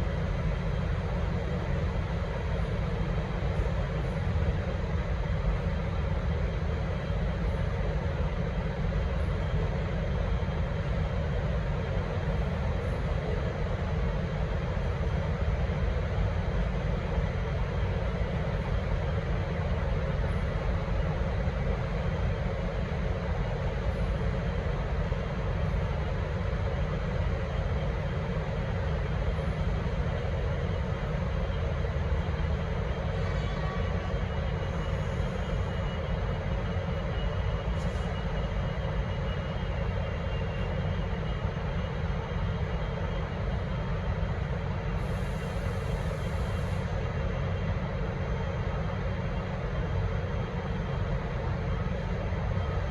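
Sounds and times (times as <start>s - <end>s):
diesel locomotive rumbling: 0.0s - 52.9s.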